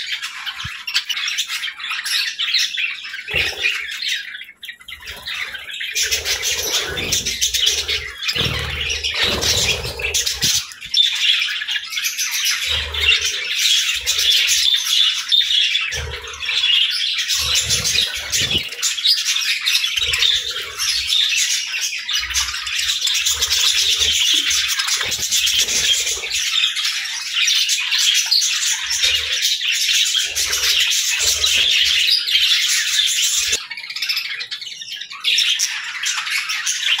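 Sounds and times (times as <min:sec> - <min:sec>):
budgerigars chattering: 0:00.0 - 0:37.0.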